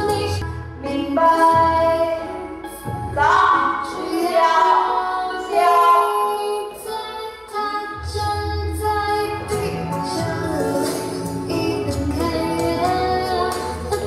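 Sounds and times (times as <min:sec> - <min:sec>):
pop song with female singer: 0:00.0 - 0:14.0.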